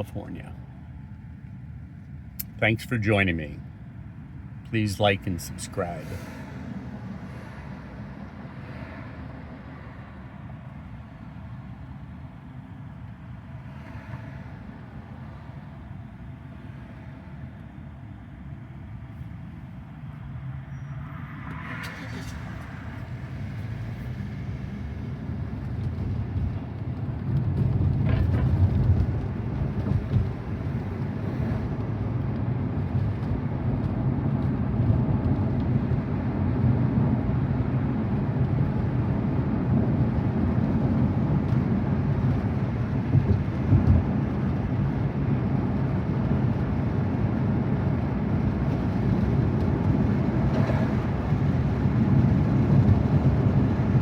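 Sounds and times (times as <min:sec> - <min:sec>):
road and tyre noise in car cabin: 0:00.0 - 0:54.0.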